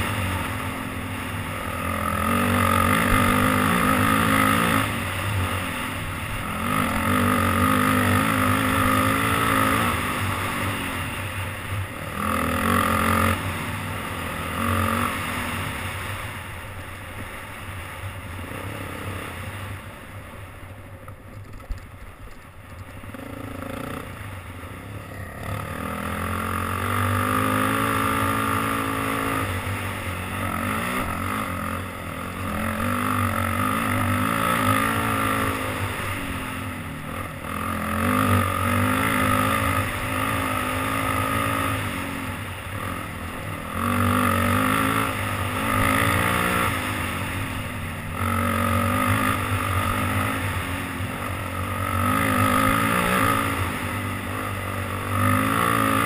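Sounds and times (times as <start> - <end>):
off-road vehicle engine revving: 0.0 - 16.2, 25.0 - 56.0.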